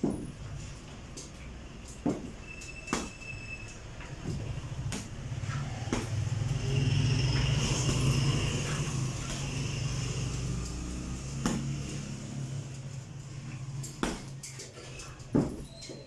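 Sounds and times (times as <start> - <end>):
vehicle engine rumbling: 0.0 - 15.6.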